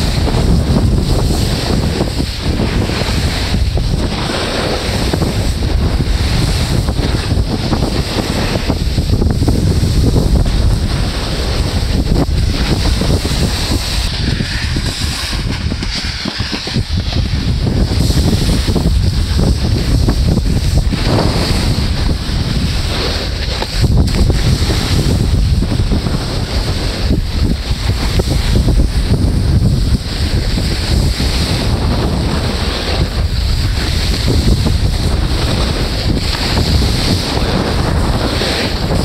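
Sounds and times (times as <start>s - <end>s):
sliding over snow hiss: 0.0s - 39.0s
wind buffeting microphone: 0.0s - 39.0s.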